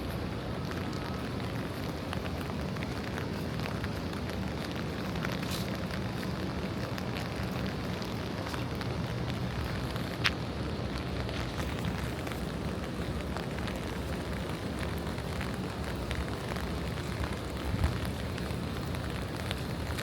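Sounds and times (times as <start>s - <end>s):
rain on pavement: 0.0s - 20.0s.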